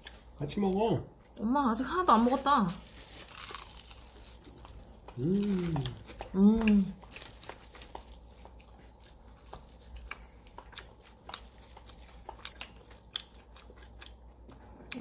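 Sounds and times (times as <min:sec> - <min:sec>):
crunching and chewing fried chicken: 0:00.0 - 0:15.0.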